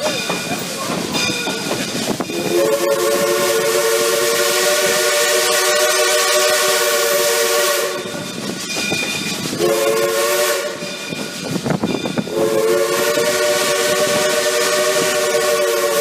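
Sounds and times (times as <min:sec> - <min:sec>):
locomotive rumble: 0:00.0 - 0:16.0
steam hiss: 0:00.0 - 0:16.0
steam locomotive chime whistle: 0:02.3 - 0:16.0.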